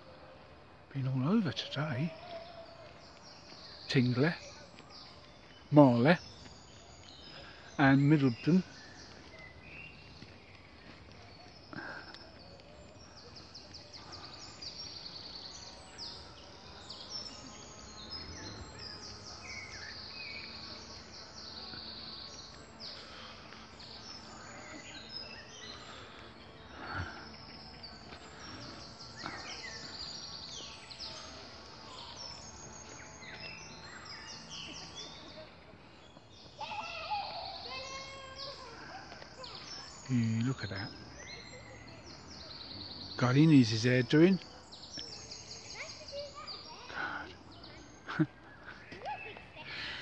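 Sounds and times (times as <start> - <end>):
birds singing: 0.0 - 50.0.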